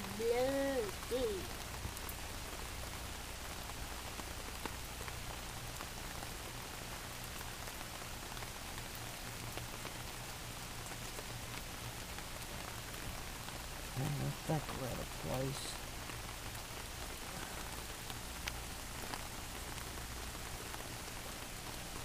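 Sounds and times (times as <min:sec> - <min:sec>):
steady rain falling: 0:00.0 - 0:22.0
ticks of raindrops: 0:00.0 - 0:22.0.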